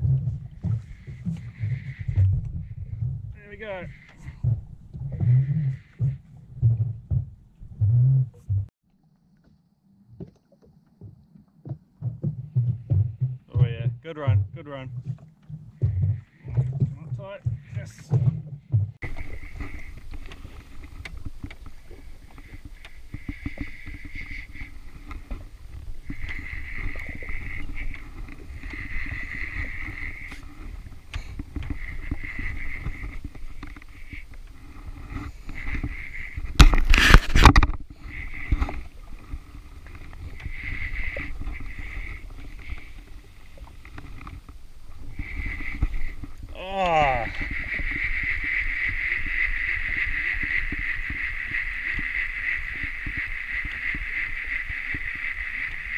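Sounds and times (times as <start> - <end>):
low rumble of water and wind: 0.0 - 55.9.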